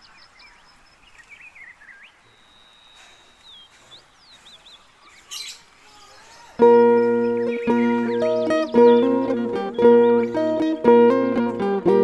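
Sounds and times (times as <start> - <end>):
small birds calling: 0.0 - 12.0.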